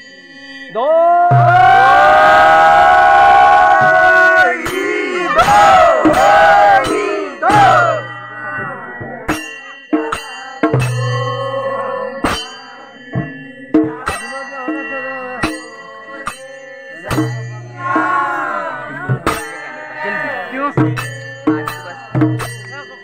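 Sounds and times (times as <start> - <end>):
metal struck ringing: 1.3 - 23.0.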